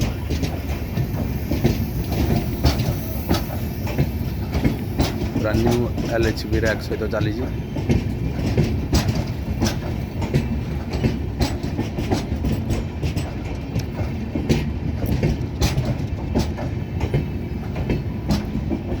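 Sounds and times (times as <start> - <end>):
train coaches rumbling: 0.0 - 19.0
wheels clicking over rail joints: 0.0 - 19.0.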